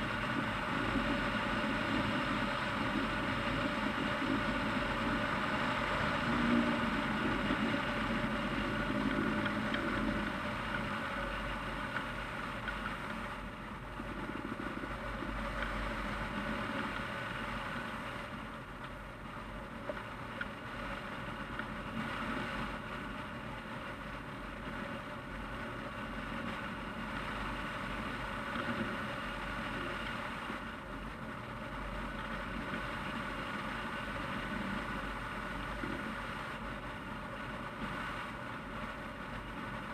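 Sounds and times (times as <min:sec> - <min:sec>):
constant hum: 0:00.0 - 0:39.9
wind rushing over camera: 0:00.0 - 0:39.9.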